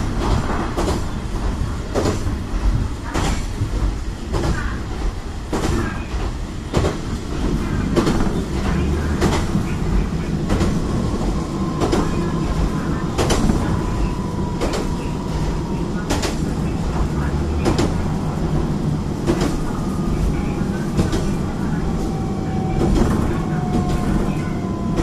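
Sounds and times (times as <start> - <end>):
train engine and wheels rumbling: 0.0 - 25.0.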